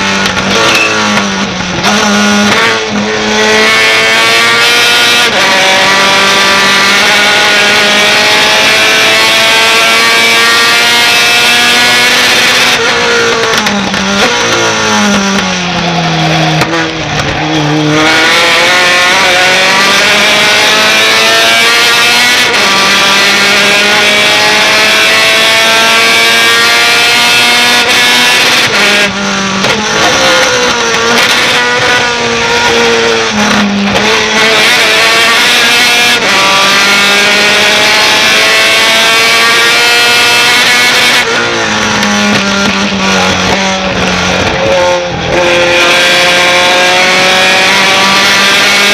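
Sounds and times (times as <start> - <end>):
truck engine at full throttle: 0.0 - 48.9.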